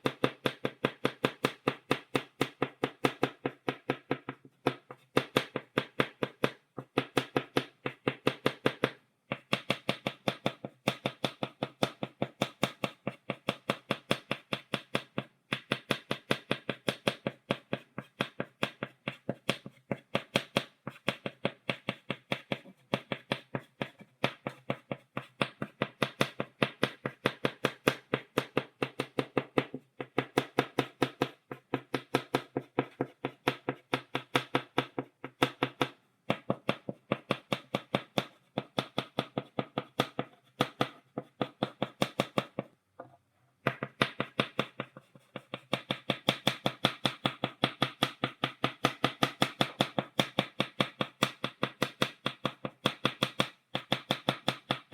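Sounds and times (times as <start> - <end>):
chalk tapping on blackboard: 0.0 - 54.9.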